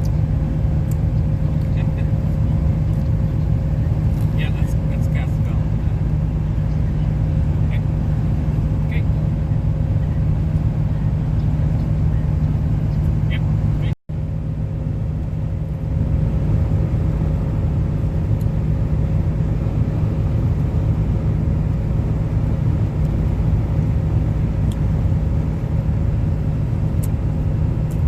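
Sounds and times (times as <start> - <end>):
car rumbling: 0.0 - 28.0.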